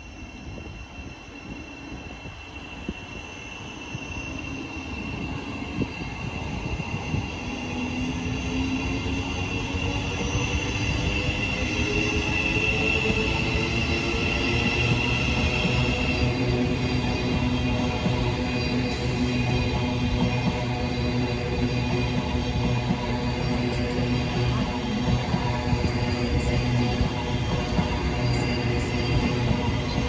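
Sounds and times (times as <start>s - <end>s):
train engine drone: 0.0s - 30.0s
wheels squealing on rails: 0.0s - 30.0s.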